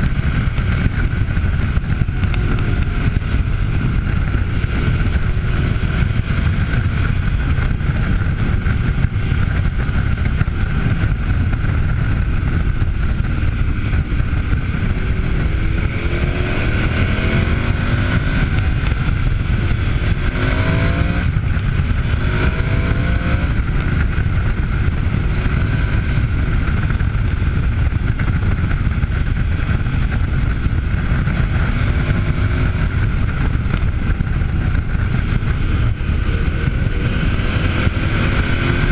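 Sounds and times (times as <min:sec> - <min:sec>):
motorcycle engine: 0:00.0 - 0:38.9
wind on microphone: 0:00.0 - 0:38.9.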